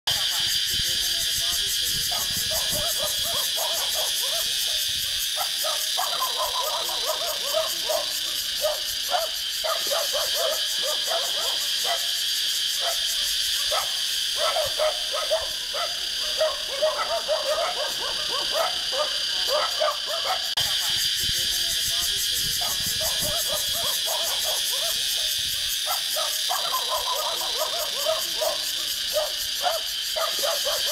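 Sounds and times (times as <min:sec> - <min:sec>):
cicadas buzzing in chorus: 0:00.1 - 0:30.9
short irregular calls: 0:00.1 - 0:30.9.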